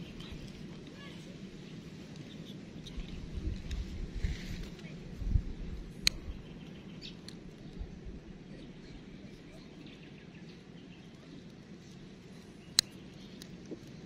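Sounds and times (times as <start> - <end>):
low steady outdoor rush: 0.0 - 14.0.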